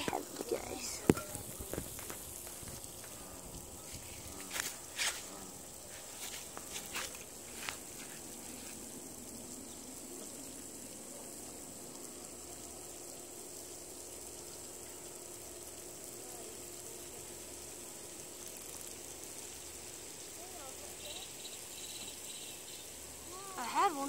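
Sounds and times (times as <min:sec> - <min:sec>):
faint steady hum: 0:00.0 - 0:24.0
high insect drone: 0:00.0 - 0:24.0
low hiss: 0:00.0 - 0:24.0.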